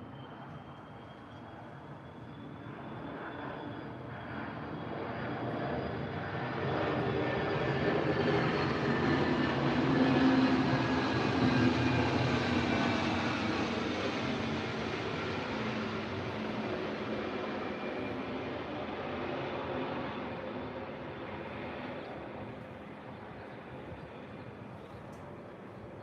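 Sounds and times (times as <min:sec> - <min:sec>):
passing aircraft engine drone: 0:00.0 - 0:26.0.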